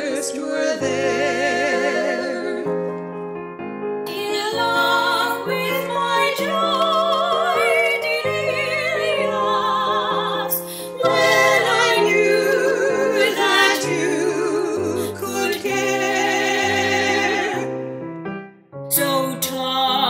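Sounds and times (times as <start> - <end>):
women singing with vibrato: 0.0 - 3.0, 4.1 - 17.8
piano accompaniment: 0.0 - 20.0.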